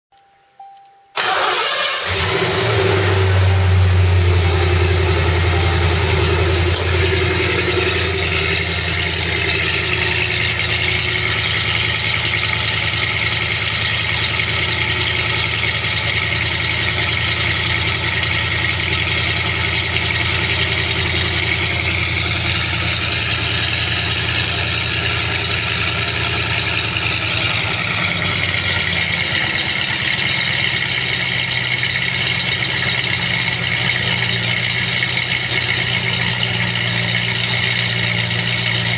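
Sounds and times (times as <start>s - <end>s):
car engine idling: 1.2s - 38.9s.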